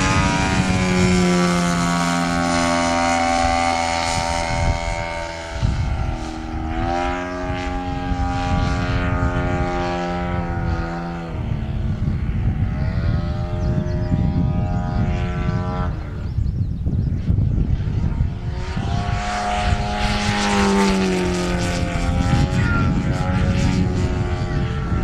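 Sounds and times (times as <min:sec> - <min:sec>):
model plane engine droning overhead: 0:00.0 - 0:25.0.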